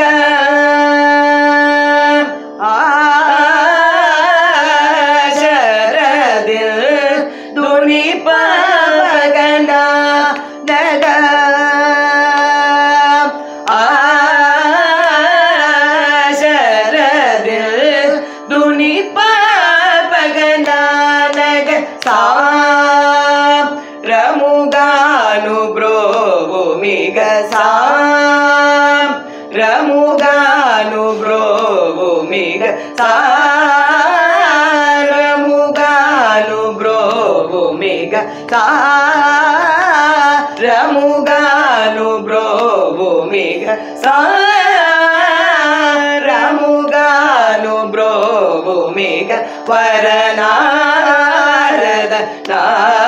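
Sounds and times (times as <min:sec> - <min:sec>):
women singing: 0:00.0 - 0:53.0.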